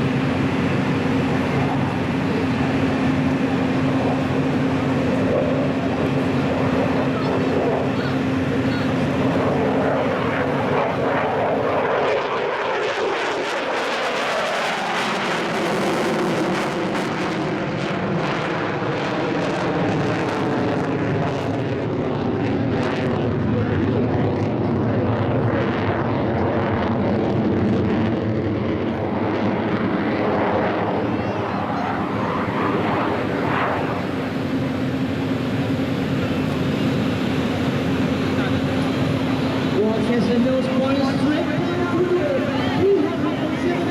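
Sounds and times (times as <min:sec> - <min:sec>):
jet engine roar passing: 0:00.0 - 0:43.9.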